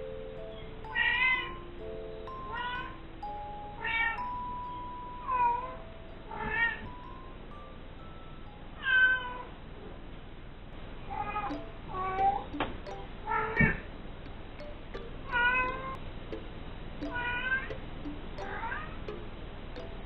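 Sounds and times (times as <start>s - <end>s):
soft background music: 0.0s - 9.6s, 11.0s - 20.0s.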